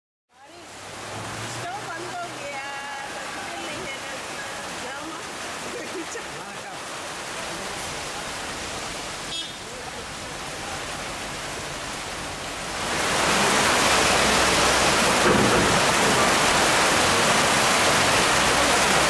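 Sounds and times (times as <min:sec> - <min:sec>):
heavy rain pouring: 0:00.3 - 0:19.0.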